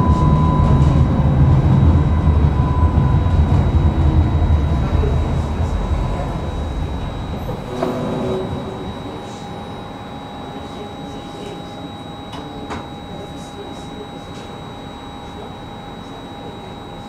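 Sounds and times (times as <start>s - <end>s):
tram electrical hum: 0.0s - 17.0s.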